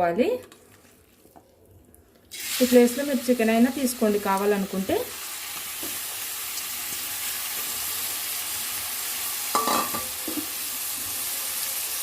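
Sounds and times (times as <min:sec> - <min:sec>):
meat sizzling in hot oil: 0:02.3 - 0:12.0.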